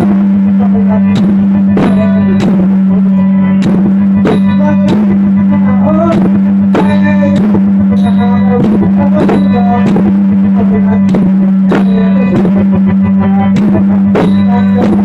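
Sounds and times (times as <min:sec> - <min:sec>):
drum strokes: 0:00.0 - 0:15.0
wavering melody: 0:00.0 - 0:15.0.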